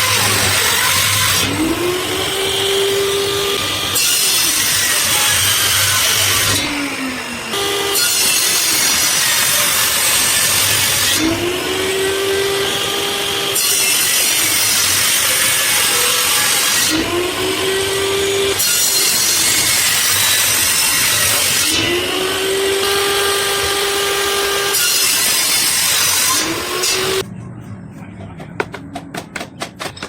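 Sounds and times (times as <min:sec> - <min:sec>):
power saw cutting wood: 0:00.0 - 0:27.2
saw blade whining: 0:00.0 - 0:27.6.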